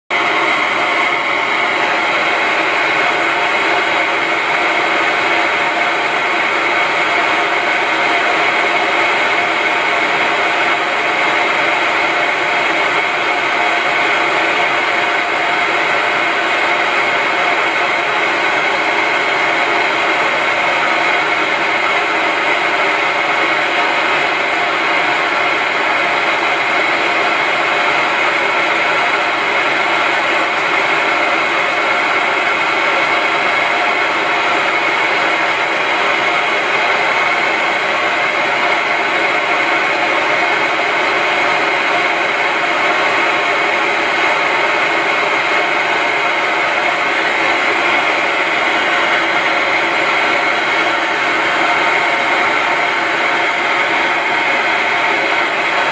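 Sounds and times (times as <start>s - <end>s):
loud white noise hiss: 0.2s - 55.9s.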